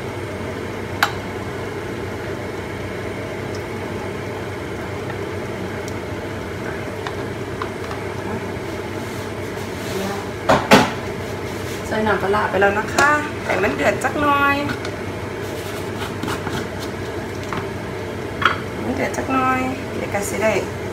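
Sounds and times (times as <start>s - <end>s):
faint hum: 0.0s - 20.9s
gas hob heating water: 0.0s - 20.9s.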